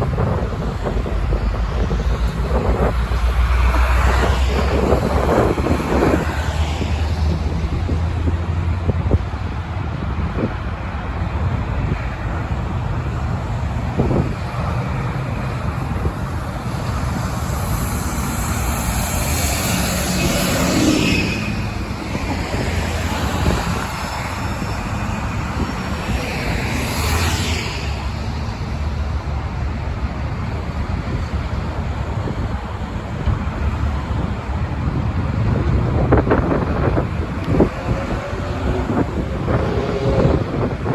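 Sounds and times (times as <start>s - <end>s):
low traffic rumble: 0.0s - 40.9s
vehicles passing: 0.0s - 40.9s.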